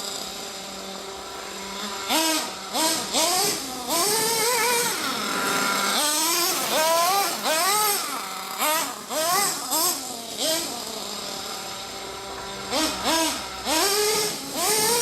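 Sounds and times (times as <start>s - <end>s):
model car engine revving: 0.0s - 15.0s.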